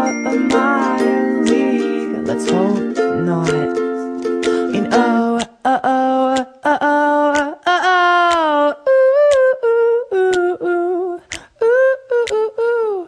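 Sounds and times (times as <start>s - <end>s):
man humming a melody: 0.0s - 13.0s.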